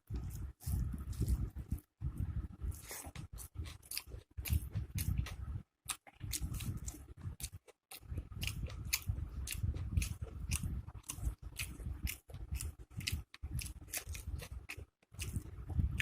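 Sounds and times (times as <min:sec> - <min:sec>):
crunchy chewing of food: 0:00.0 - 0:16.0.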